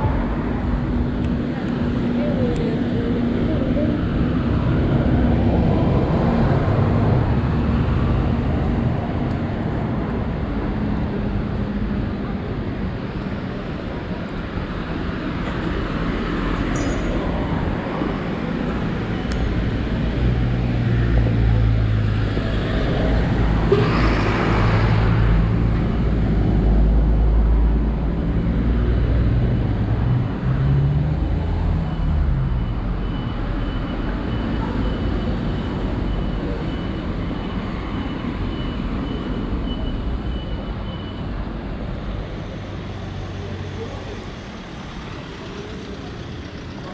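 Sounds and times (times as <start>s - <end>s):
road traffic: 0.0s - 46.9s.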